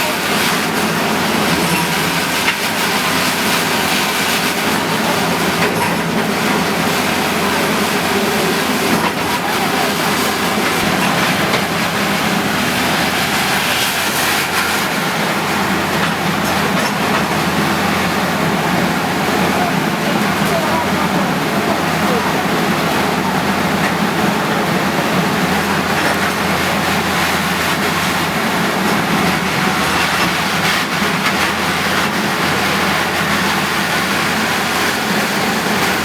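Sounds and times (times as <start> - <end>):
bulldozer engine rumbling: 0.0 - 36.0.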